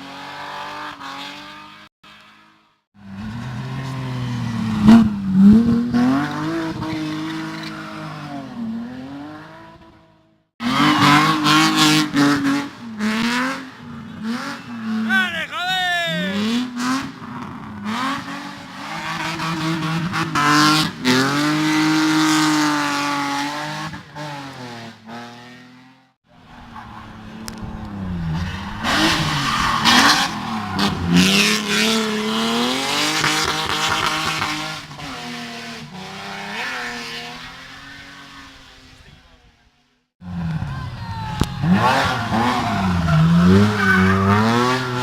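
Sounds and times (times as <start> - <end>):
race car engines revving: 0.0 - 39.5, 40.2 - 45.0.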